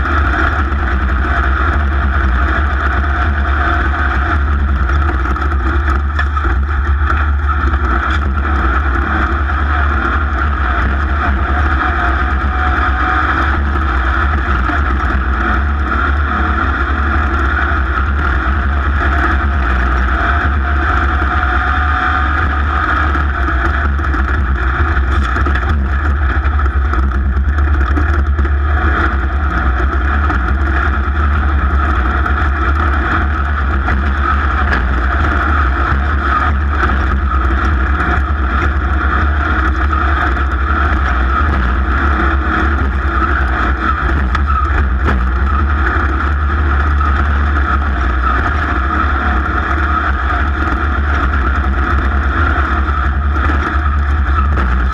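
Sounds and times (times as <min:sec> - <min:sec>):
race engine running hard: 0:00.0 - 0:54.9.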